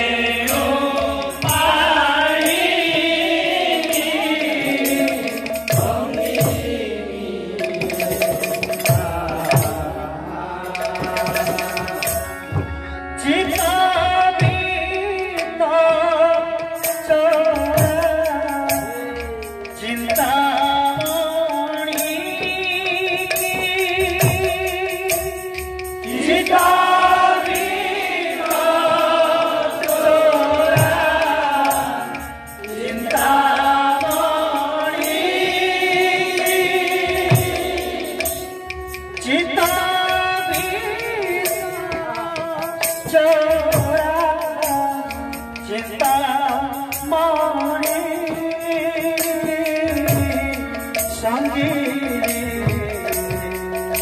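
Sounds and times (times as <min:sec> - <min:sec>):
man singing: 0:00.0 - 0:54.0.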